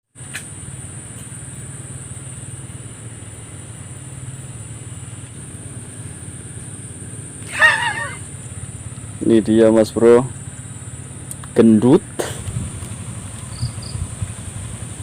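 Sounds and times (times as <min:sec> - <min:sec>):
small engine idling: 0:00.1 - 0:15.0.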